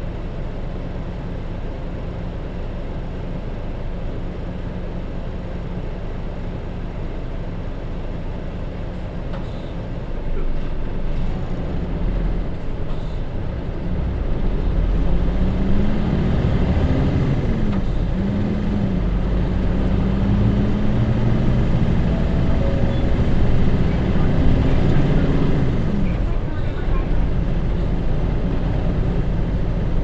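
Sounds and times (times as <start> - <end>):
bus diesel engine whining: 0.0 - 30.0.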